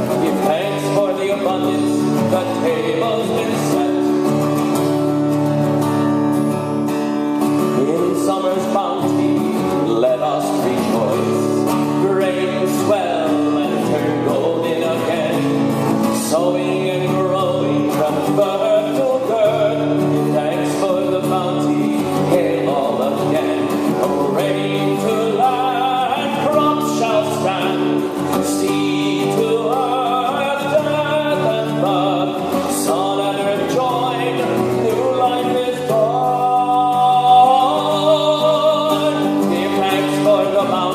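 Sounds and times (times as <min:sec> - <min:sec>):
person singing folk song: 0:00.0 - 0:40.9
strummed acoustic guitar: 0:00.0 - 0:40.9.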